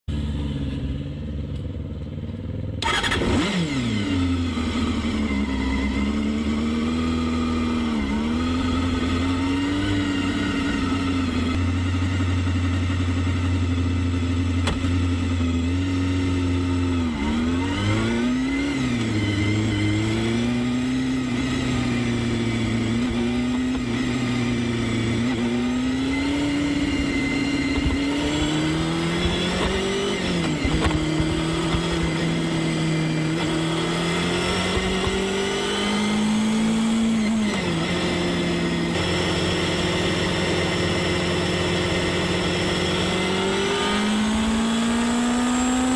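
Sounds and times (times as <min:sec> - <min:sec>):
motorcycle engine running: 0:00.1 - 0:45.9.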